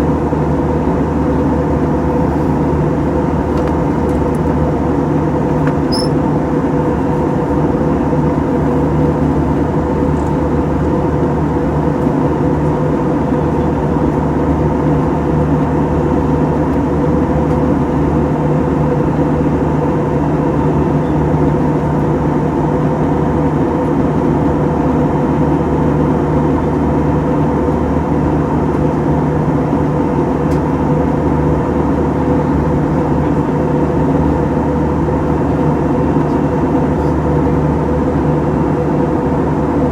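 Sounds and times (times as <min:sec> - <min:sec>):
jet engine cabin drone: 0:00.0 - 0:39.9.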